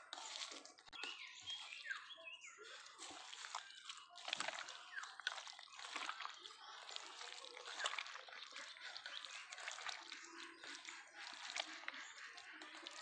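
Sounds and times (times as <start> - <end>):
wet squelching of food mashed by hand: 0.0 - 13.0.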